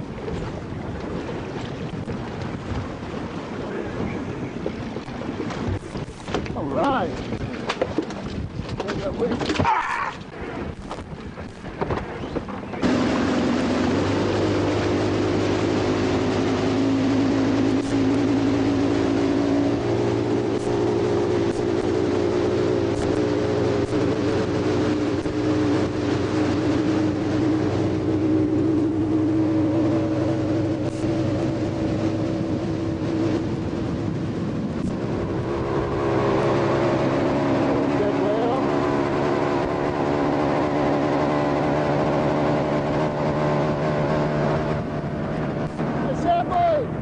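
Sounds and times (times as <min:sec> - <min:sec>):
motorboat engine drone: 0:00.0 - 0:08.6, 0:09.3 - 0:47.0.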